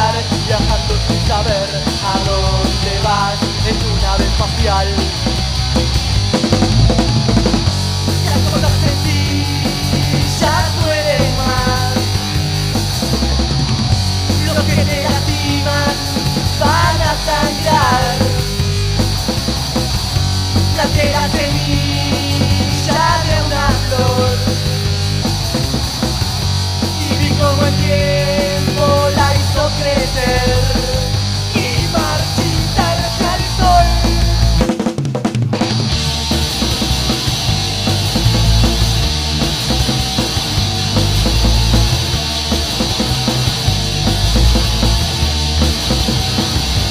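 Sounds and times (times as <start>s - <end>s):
electric guitar lead lines: 0.0s - 34.6s, 35.6s - 46.9s
punk rock band playing: 0.0s - 46.9s.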